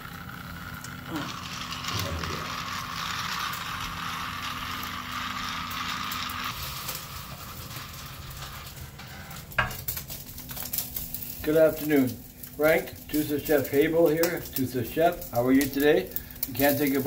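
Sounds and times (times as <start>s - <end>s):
toy train whirring: 0.0s - 17.0s.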